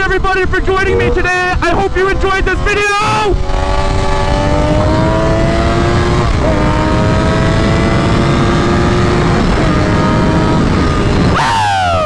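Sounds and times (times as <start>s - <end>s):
rush of wind: 0.0s - 12.0s
motorbike engine accelerating: 0.1s - 12.0s.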